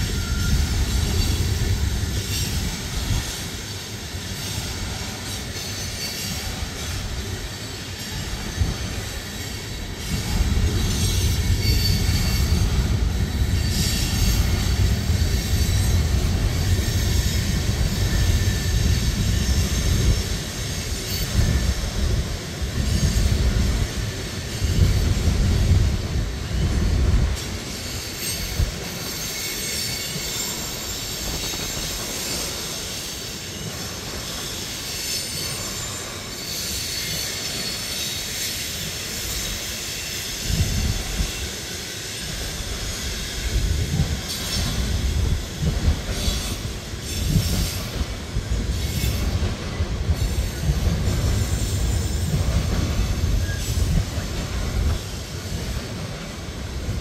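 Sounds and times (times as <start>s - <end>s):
rail clatter: 0.0s - 41.6s, 42.2s - 57.0s
freight train rumbling past: 0.0s - 57.0s
steel wheels squealing: 0.0s - 57.0s.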